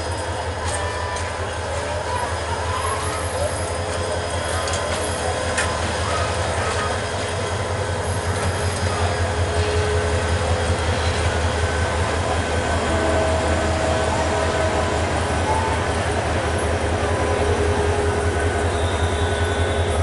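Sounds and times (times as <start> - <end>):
coaches rolling on rails: 0.0 - 20.0
diesel locomotive engine rumble: 0.0 - 20.0.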